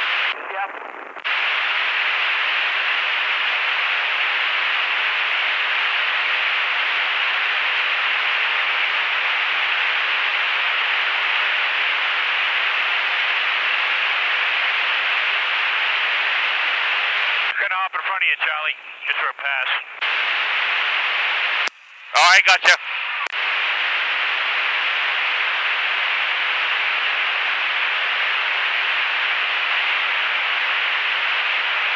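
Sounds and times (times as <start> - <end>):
radio static hiss: 0.0 - 31.9.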